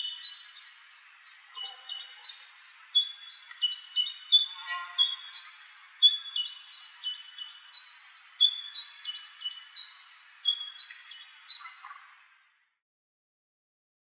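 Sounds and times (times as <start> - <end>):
songbirds chirping: 0.0 - 12.6.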